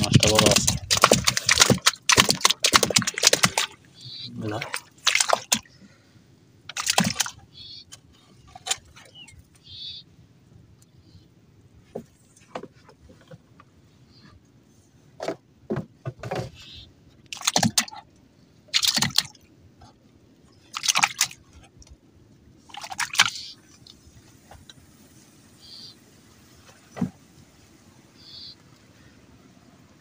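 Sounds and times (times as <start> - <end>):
water splashing around boat: 0.0 - 10.0, 15.0 - 22.0, 22.6 - 30.0.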